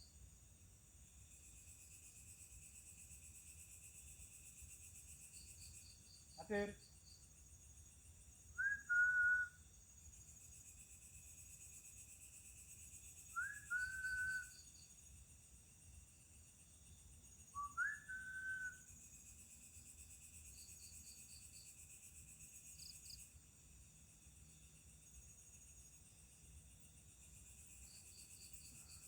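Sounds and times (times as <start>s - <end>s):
night insects chirping: 0.0s - 29.0s.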